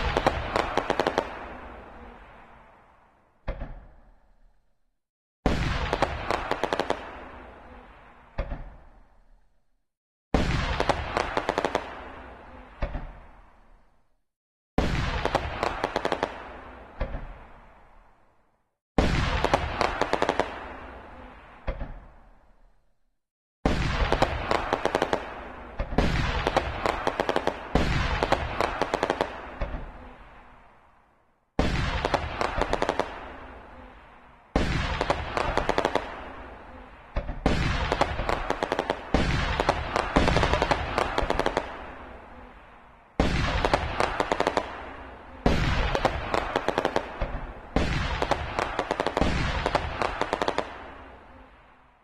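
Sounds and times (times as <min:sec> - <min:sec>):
fireworks bursting and crackling: 0:00.0 - 0:04.2, 0:05.4 - 0:09.1, 0:10.3 - 0:13.8, 0:14.8 - 0:18.2, 0:19.0 - 0:22.5, 0:23.6 - 0:51.8.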